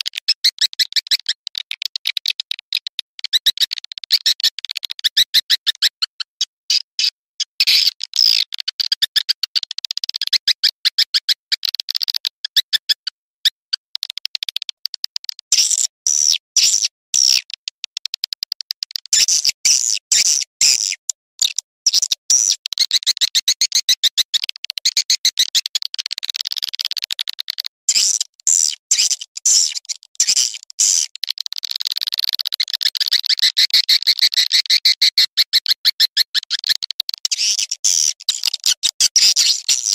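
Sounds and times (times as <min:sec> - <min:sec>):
high chirping bird clicks: 0:00.0 - 0:39.9.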